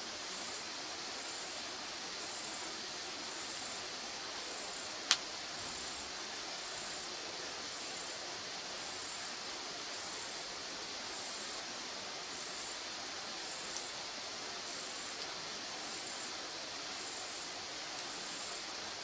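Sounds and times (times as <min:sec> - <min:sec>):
firewood burning with hiss: 0:00.0 - 0:19.0.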